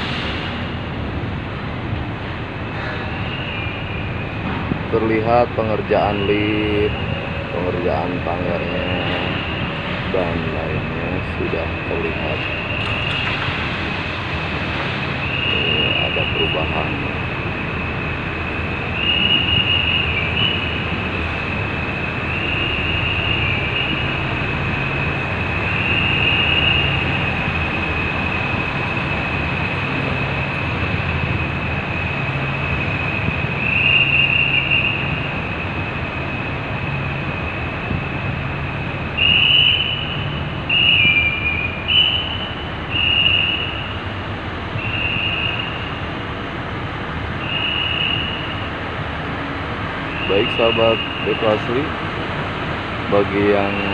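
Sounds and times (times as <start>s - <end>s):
high-pitched whine: 0.0s - 53.9s
rail vehicle engine rolling: 0.0s - 53.9s.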